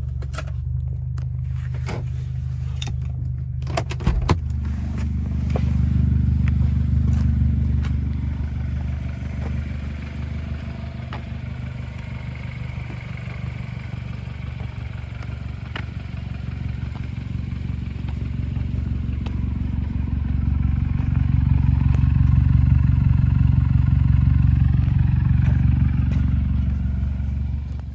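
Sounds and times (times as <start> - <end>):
car engine droning: 0.0 - 27.9.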